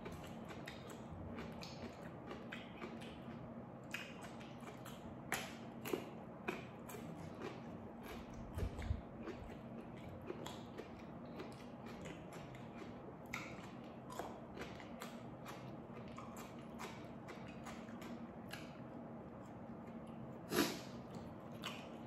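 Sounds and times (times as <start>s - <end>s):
faint low hum: 0.0s - 22.0s
person chewing and crunching: 0.0s - 22.0s.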